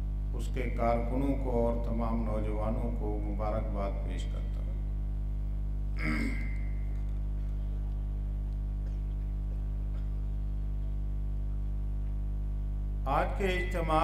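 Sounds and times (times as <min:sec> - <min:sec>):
electrical hum from speakers: 0:00.0 - 0:14.0.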